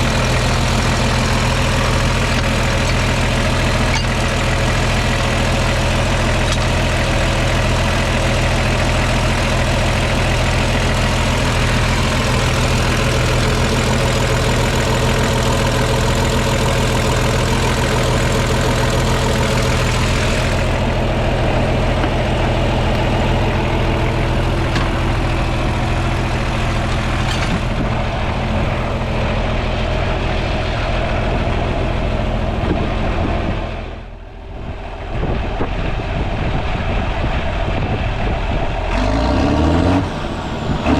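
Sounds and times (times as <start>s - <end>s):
farm engine idling: 0.0s - 40.9s.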